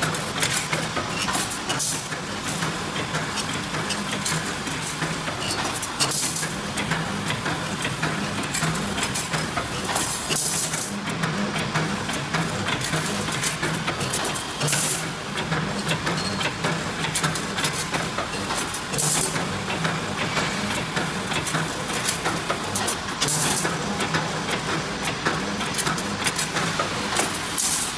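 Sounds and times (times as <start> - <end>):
rapid clicks and clacks: 0.0 - 27.9.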